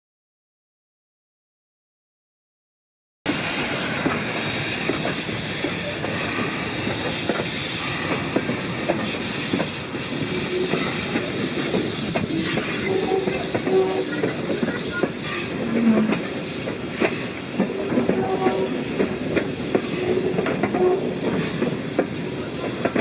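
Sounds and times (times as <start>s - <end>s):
train wheels clicking over rail joints: 3.4s - 23.0s.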